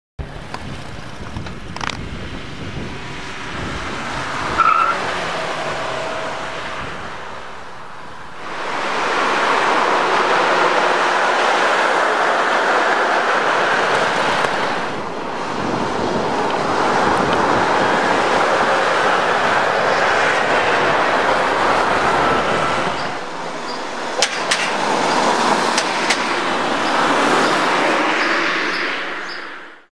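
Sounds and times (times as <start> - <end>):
cars driving past: 0.2 - 29.9.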